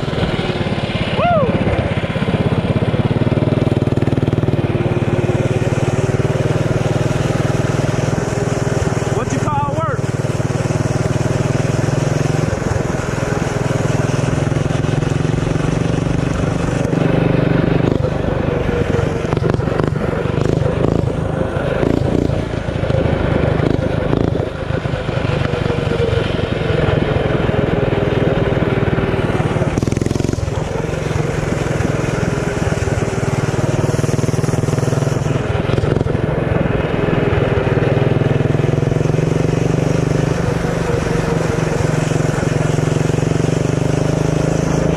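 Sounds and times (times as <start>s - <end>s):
mini bike engine revving: 0.0s - 44.9s.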